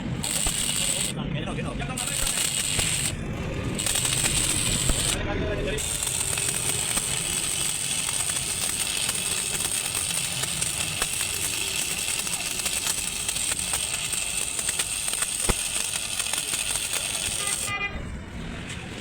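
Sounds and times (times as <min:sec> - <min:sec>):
machinery noise with high hiss: 0:00.0 - 0:19.0.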